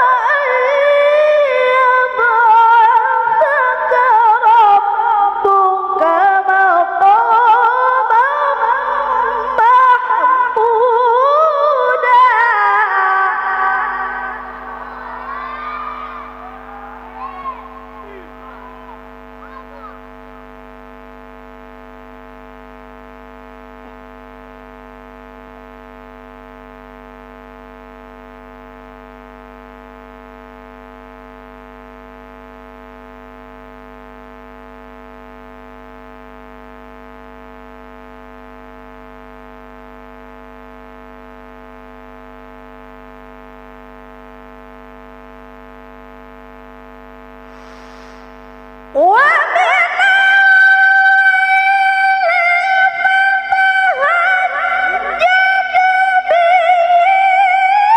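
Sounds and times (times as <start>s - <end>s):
steady electronic hum: 0.0s - 57.9s.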